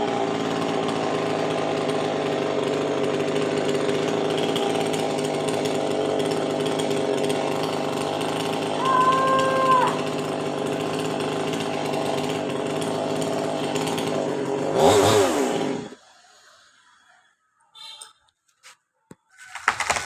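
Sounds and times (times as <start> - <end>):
chainsaw engine running: 0.0 - 16.1, 19.4 - 20.0.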